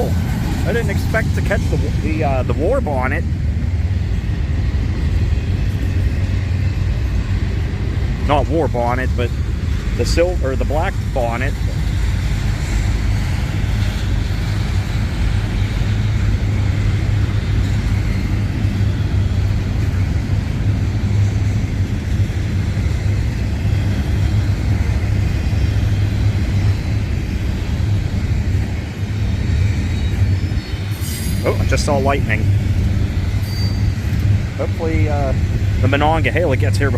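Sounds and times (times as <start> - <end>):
diesel locomotive idling: 0.0 - 36.9.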